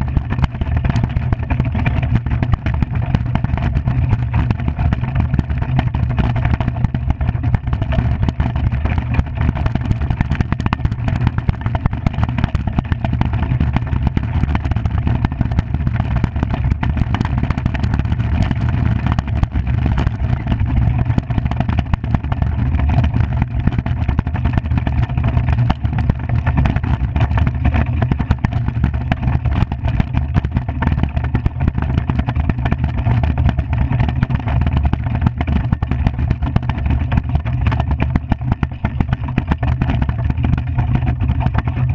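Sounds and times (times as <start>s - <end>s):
iceboat runners rumbling on ice: 0.0s - 41.9s.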